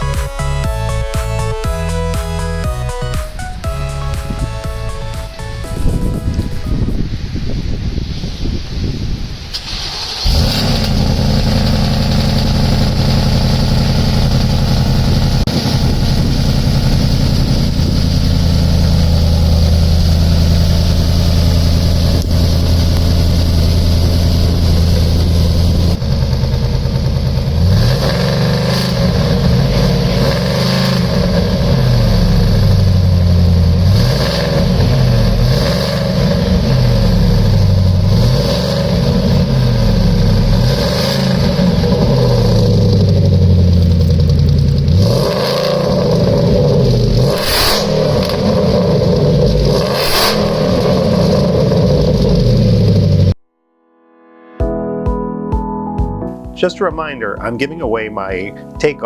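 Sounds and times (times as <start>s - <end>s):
truck engine idling and revving: 0.0s - 7.3s, 9.6s - 53.4s.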